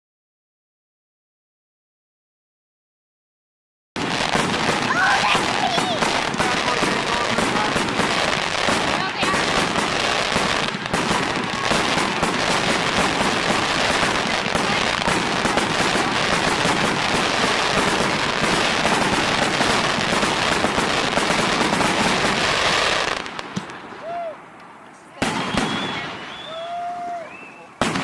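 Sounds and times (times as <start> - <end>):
fireworks crackling pops: 4.0 - 28.0.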